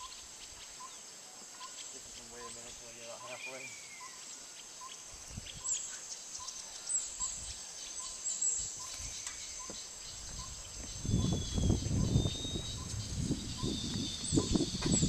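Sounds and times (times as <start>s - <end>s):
insects whining: 0.0s - 15.0s.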